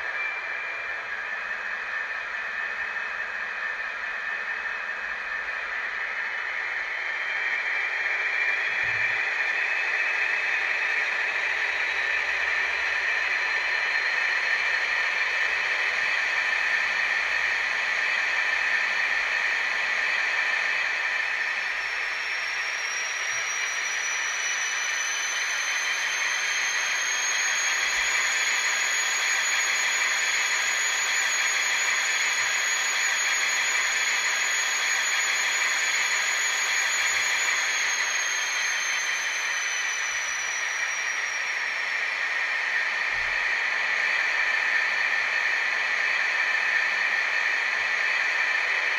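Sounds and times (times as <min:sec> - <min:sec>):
high whine rising in pitch: 0:00.0 - 0:48.9.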